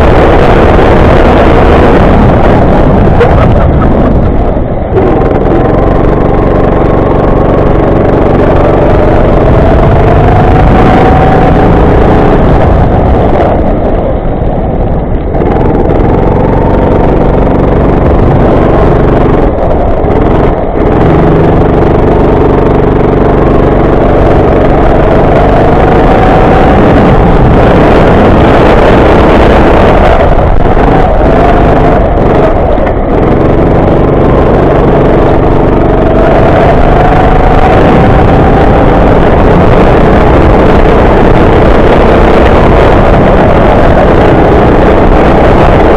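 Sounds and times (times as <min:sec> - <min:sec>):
go-kart engine revving: 0:00.0 - 0:45.9.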